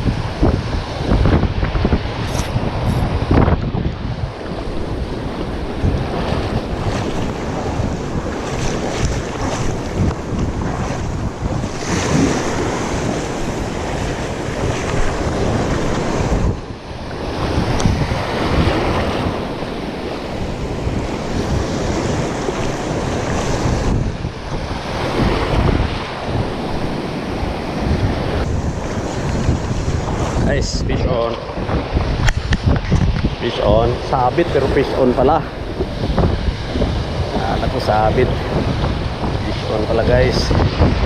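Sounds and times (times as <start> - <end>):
breaking surf: 0.0 - 41.0
wind buffeting microphone: 0.0 - 41.0.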